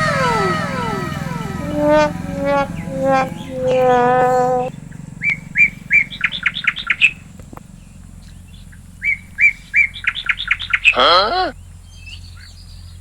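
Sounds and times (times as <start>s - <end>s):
steady low hum: 0.0s - 13.0s
bird singing whistled notes: 0.3s - 11.0s, 11.6s - 13.0s.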